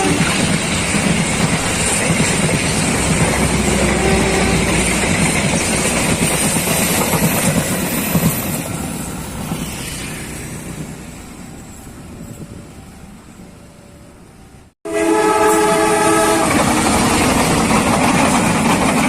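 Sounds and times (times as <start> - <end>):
train wheels rumbling on rails: 0.0 - 13.6, 14.2 - 19.0.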